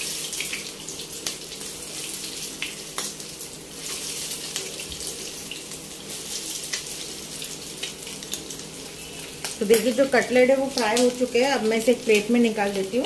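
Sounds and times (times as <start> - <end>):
hot oil sizzling and spattering: 0.0 - 13.0.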